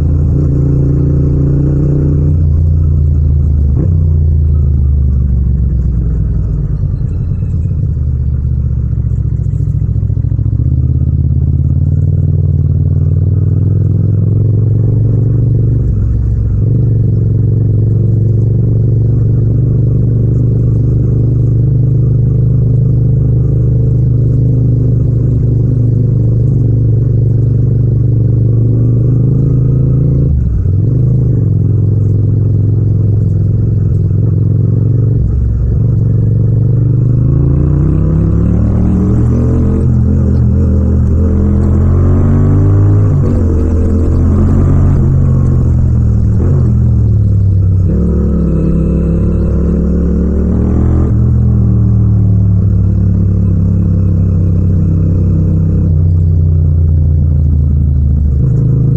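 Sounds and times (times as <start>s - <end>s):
motorcycle engine cruising: 0.0s - 58.9s.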